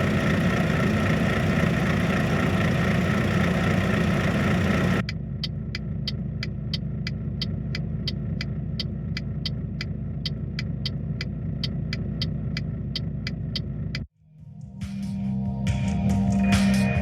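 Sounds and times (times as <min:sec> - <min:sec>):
sharp ticking: 0:00.0 - 0:14.1
truck engine running: 0:00.0 - 0:14.1.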